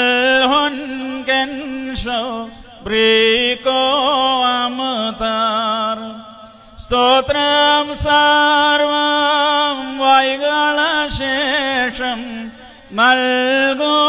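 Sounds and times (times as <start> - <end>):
person singing liturgical chant: 0.0 - 14.0.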